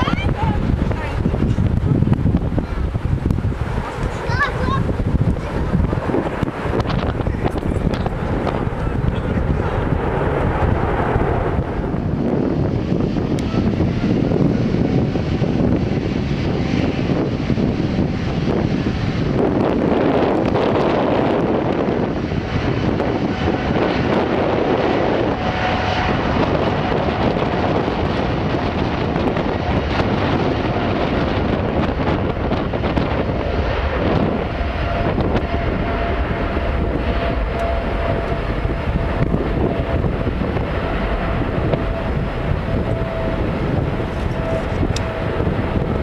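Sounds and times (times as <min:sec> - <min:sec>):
jet engines roaring: 0:00.0 - 0:46.0
wind rumble on microphone: 0:00.0 - 0:46.0
thin engine whine: 0:04.8 - 0:46.0.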